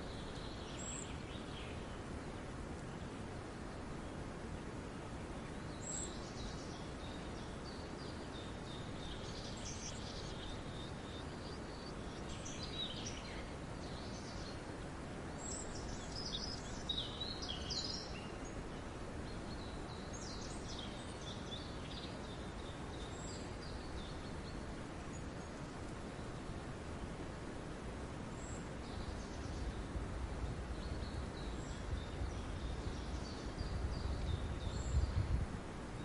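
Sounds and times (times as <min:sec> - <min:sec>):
small birds chirping: 0:00.0 - 0:27.2, 0:28.3 - 0:35.4
steady background hiss: 0:00.0 - 0:36.0.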